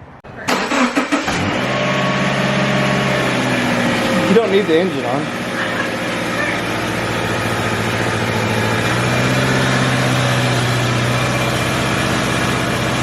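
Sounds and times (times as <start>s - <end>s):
car engine idling: 0.4s - 13.0s.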